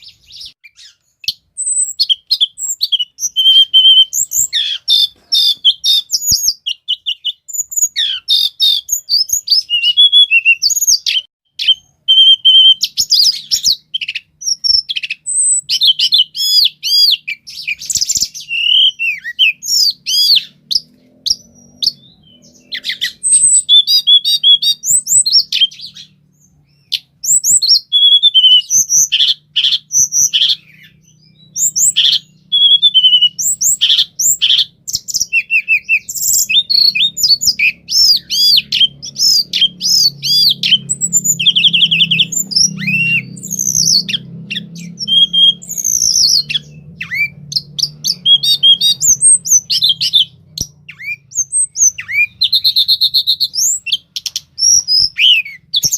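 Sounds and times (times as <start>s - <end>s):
bird singing chirps and trills: 0.0s - 55.9s.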